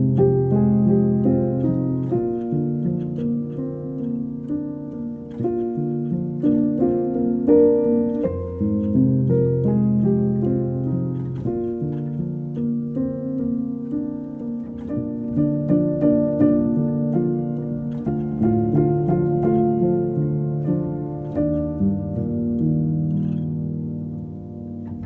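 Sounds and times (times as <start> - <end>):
soft piano piece: 0.0 - 25.0.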